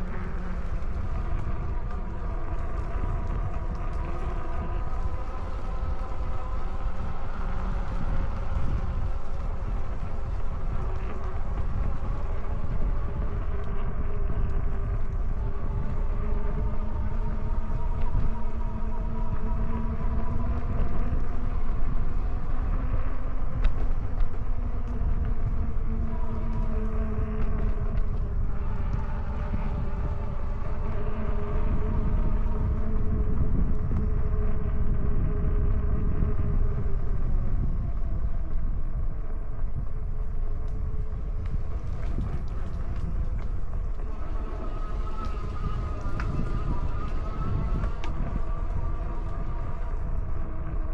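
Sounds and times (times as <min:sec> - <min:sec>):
steady whine: 0:00.0 - 0:50.9
wind on microphone: 0:00.0 - 0:50.9.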